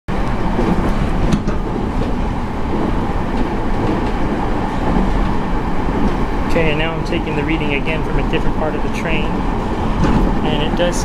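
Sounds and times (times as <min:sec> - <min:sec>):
train interior rumble: 0:00.1 - 0:11.0.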